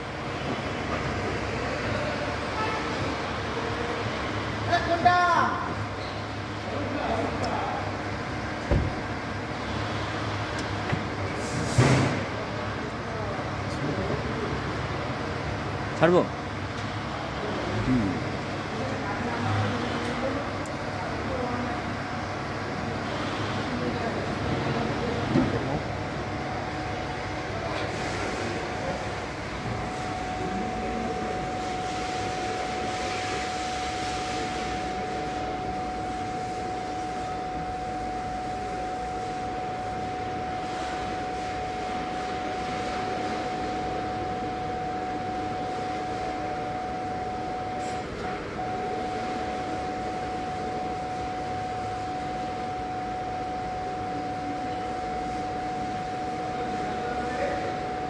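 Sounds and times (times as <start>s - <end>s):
parking sensor continuous tone: 0.0s - 58.0s
workshop background noise: 0.0s - 58.0s.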